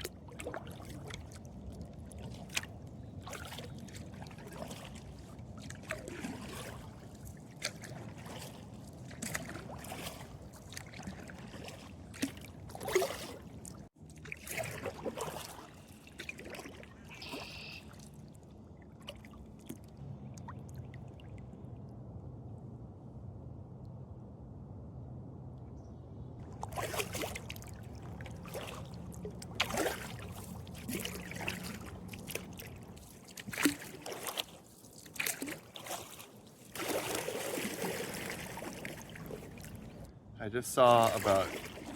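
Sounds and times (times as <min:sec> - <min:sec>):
kayak paddle splashing: 0:00.0 - 0:21.3, 0:26.4 - 0:40.1, 0:40.8 - 0:41.9
water trickling off paddle: 0:00.0 - 0:21.4, 0:26.4 - 0:40.1, 0:40.8 - 0:41.9.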